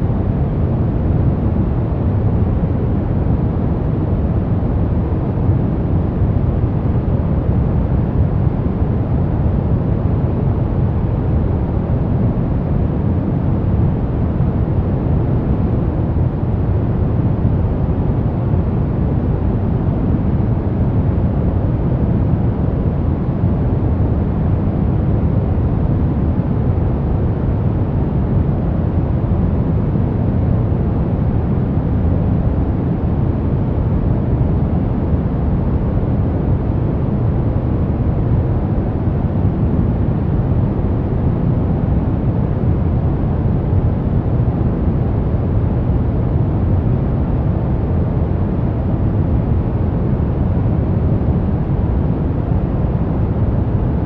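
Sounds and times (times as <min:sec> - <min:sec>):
deep rushing white noise: 0:00.0 - 0:54.0.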